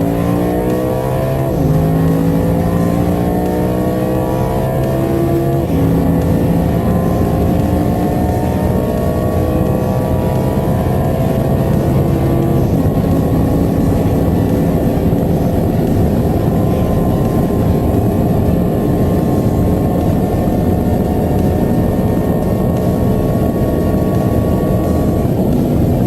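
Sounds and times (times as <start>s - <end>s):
car engine accelerating: 0.0s - 26.0s
wind and tyre noise: 0.0s - 26.0s.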